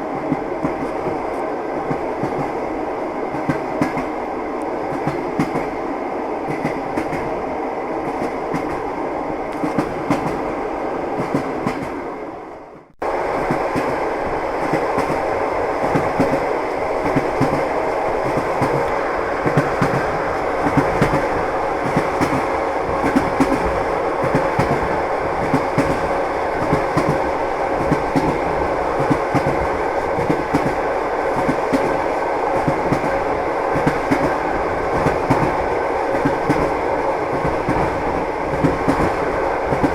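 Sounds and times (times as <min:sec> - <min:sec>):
train wheels clickety-clack: 0:00.2 - 0:02.7, 0:03.3 - 0:05.8, 0:06.5 - 0:07.4, 0:08.0 - 0:08.9, 0:09.5 - 0:10.6, 0:11.2 - 0:12.0, 0:13.3 - 0:39.9.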